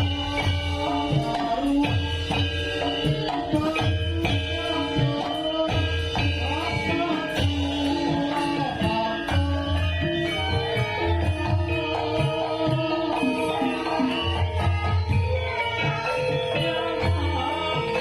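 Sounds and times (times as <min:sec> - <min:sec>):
gamelan music: 0:00.0 - 0:18.0.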